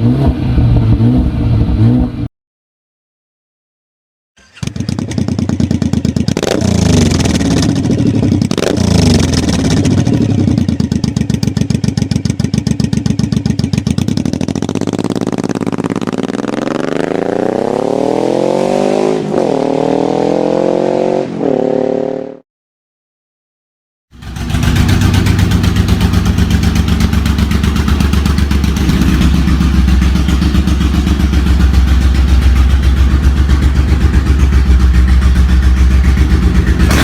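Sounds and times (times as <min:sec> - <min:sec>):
motorcycle engine revving: 0:04.4 - 0:22.4, 0:24.1 - 0:37.0.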